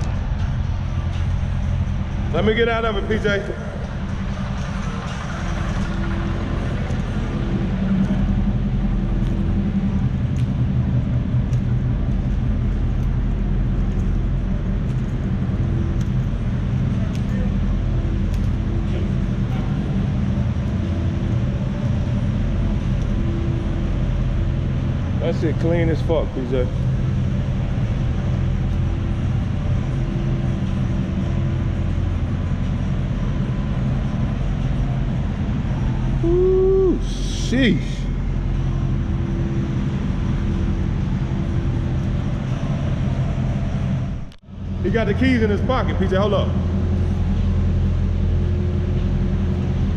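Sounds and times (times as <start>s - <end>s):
car engine running at low revs: 0.0s - 49.9s.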